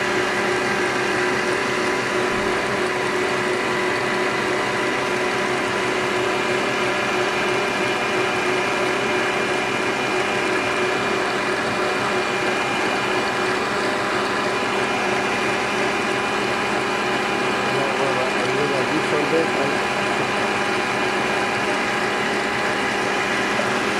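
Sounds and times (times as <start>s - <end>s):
stand mixer whine: 0.0s - 23.9s
whisk beating batter: 0.0s - 23.9s.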